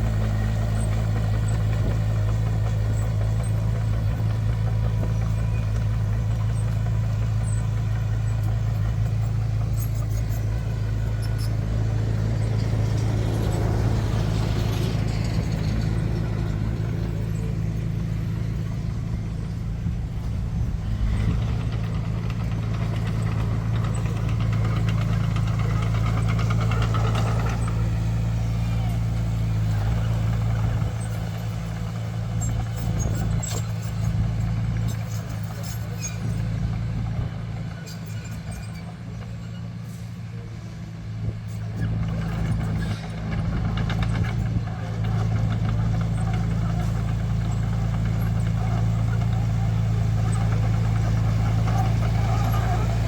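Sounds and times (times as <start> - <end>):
heavy machinery diesel engine: 0.0 - 53.0.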